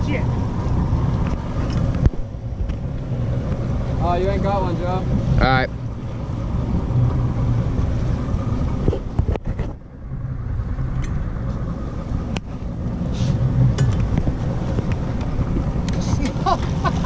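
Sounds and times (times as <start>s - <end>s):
boat motor rumbling: 0.0s - 17.0s.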